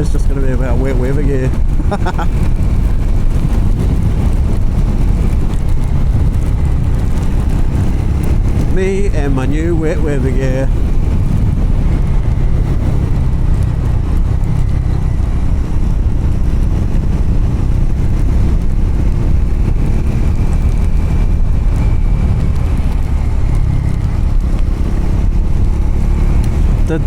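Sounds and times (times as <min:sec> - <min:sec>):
motorcycle engine running: 0:00.0 - 0:27.0
road noise on gravel: 0:00.0 - 0:27.0
wind noise: 0:00.0 - 0:27.0.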